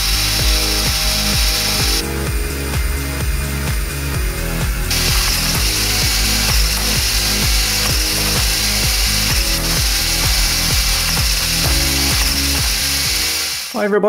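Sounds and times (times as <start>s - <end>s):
electronic music with bass thuds: 0.0s - 13.8s.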